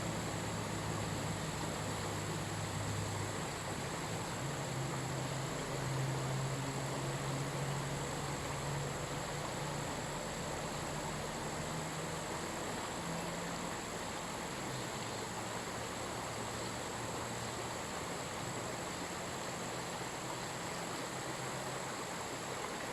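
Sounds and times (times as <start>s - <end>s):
high buzz of insects: 0.0s - 22.9s
river water flowing: 0.0s - 22.9s.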